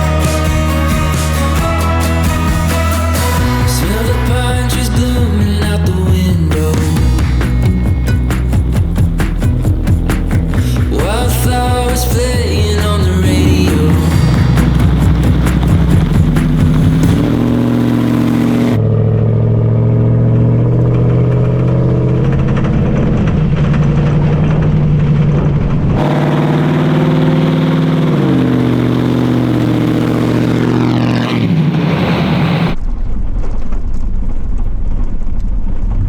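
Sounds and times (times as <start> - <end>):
car engine running: 0.0 - 32.8
low road rumble: 0.0 - 36.0.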